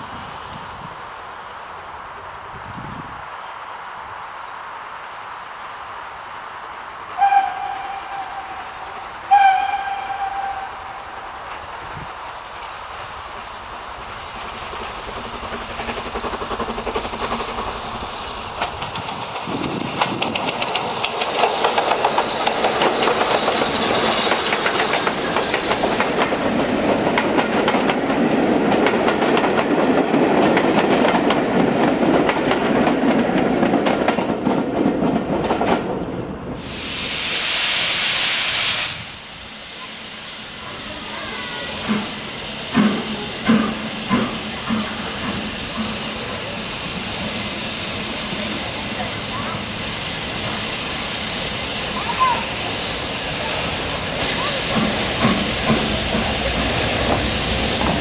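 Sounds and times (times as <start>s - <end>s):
steam locomotive passing: 0.0s - 58.0s
steam hissing: 7.1s - 32.1s, 36.5s - 58.0s.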